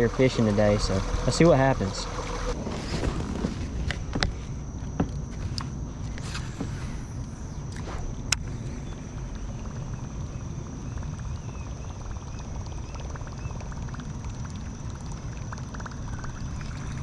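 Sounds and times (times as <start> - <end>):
high thin whine: 0.0 - 13.8.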